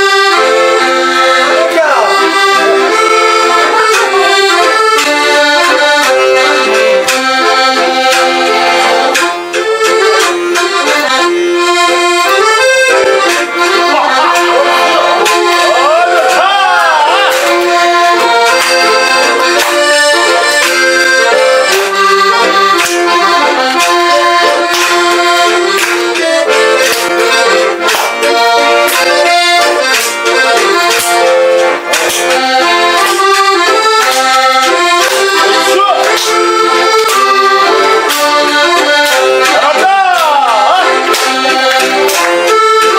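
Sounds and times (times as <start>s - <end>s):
accordion playing lively tune: 0.0s - 42.9s.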